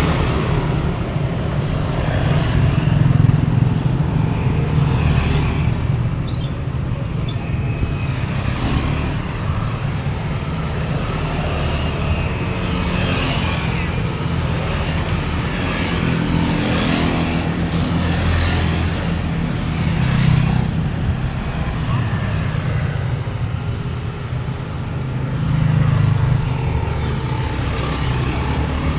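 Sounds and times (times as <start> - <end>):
engines rumbling: 0.0 - 28.9.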